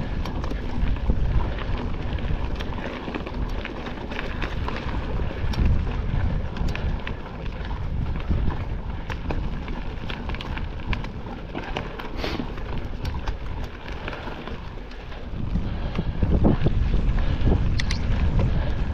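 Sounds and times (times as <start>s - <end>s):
wind on microphone: 0.0s - 2.8s, 3.4s - 11.4s, 12.2s - 18.9s
bike rattling clicks and knocks: 0.0s - 18.9s
tyres rumbling on trail: 0.0s - 18.9s.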